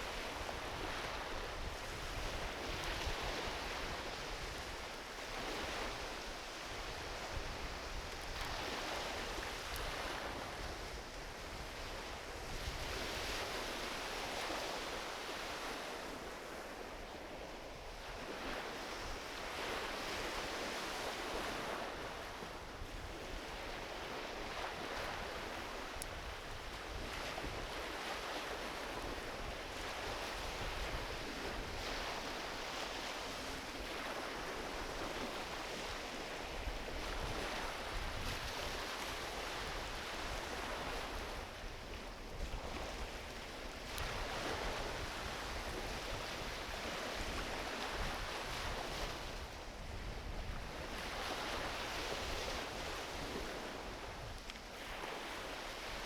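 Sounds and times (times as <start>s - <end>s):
small waves washing onto beach: 0.0s - 56.0s.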